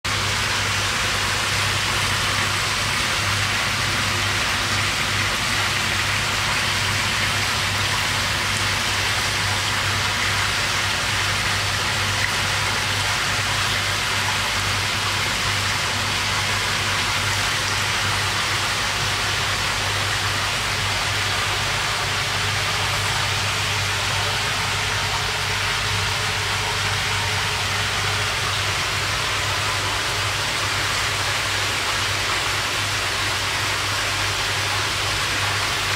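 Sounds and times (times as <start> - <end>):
rushing water: 0.1 - 35.9.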